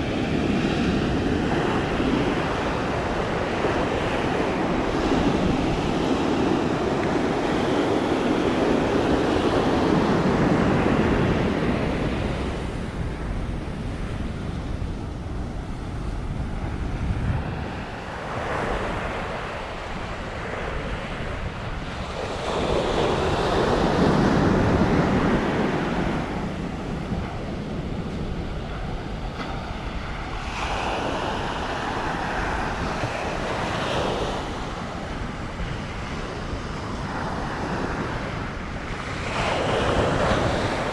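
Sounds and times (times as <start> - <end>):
sea surf breaking: 0.0 - 40.9
wind rumbling on microphone: 0.0 - 40.9.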